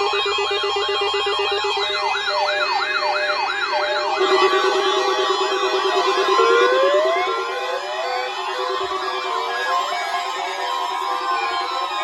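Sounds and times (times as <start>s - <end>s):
electronic siren sweeping: 1.8s - 12.0s.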